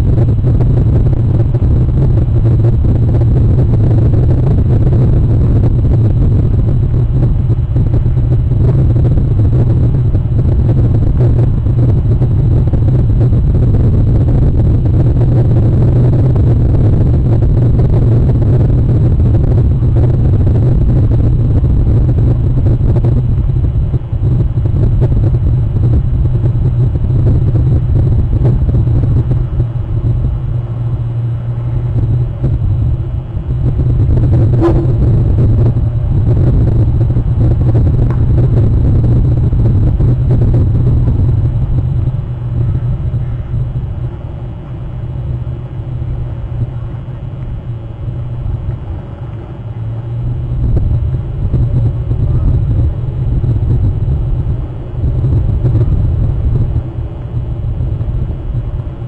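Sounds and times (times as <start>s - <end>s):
loud low rumble: 0.0s - 59.0s.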